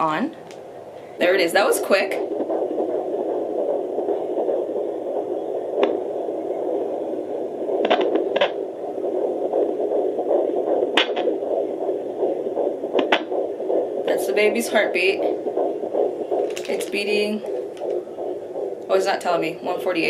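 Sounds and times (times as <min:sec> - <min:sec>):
whooshing fetal heartbeat: 0:00.0 - 0:20.0.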